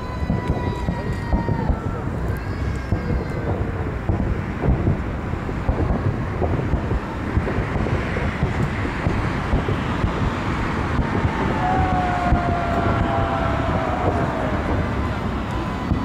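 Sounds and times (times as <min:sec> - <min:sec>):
fireworks bursts with crackle: 0:00.0 - 0:16.0.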